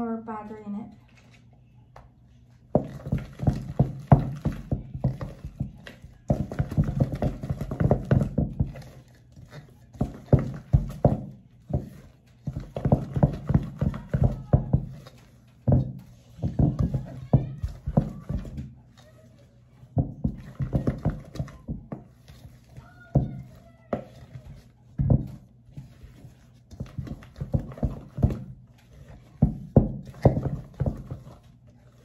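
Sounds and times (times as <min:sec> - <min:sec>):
spatula mashing potatoes in bowl: 0:02.6 - 0:32.0.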